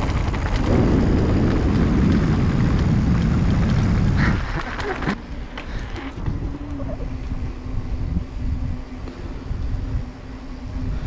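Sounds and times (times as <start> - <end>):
steady low hum: 0.0 - 11.0
wind rumble on microphone: 0.0 - 11.0.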